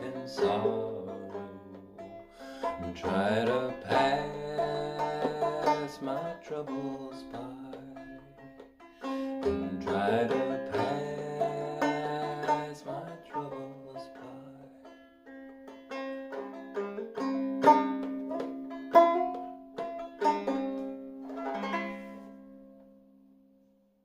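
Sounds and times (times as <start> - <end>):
clawhammer banjo playing: 0.0 - 23.0.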